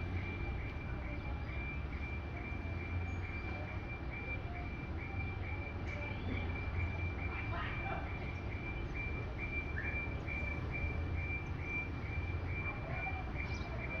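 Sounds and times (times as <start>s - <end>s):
truck engine rumbling: 0.0s - 14.0s
truck reversing alarm beeping: 0.0s - 14.0s.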